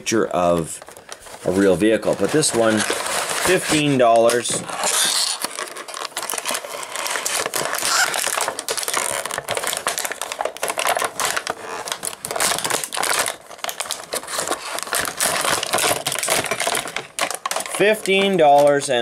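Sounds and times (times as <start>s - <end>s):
plastic packaging crackling: 0.0s - 19.0s.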